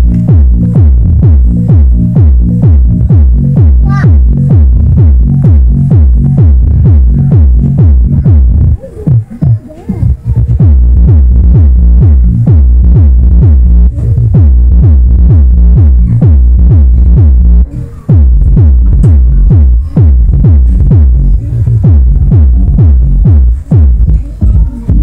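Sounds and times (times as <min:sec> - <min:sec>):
bass-heavy electronic music: 0:00.0 - 0:25.0.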